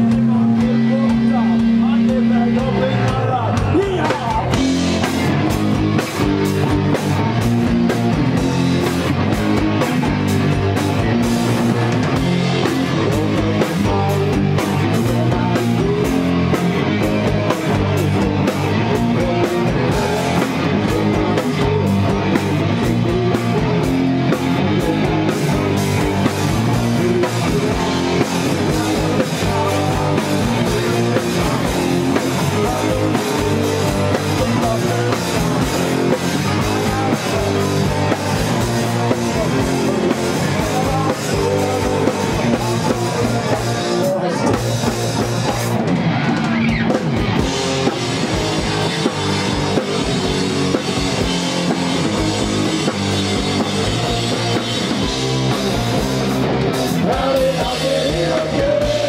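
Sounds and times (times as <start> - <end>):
bass guitar: 0.0 - 59.0
electric guitars: 0.0 - 59.0
rapid drum and cymbal hits: 0.0 - 59.0.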